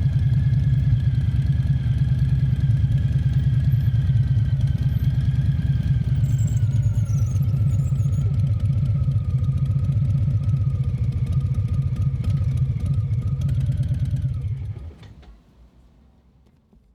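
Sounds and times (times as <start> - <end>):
motorcycle engine idling: 0.0 - 14.8.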